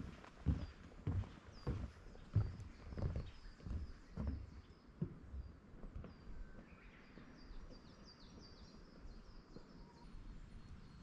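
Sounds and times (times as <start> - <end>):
footsteps on wooden boardwalk: 0.0 - 9.8.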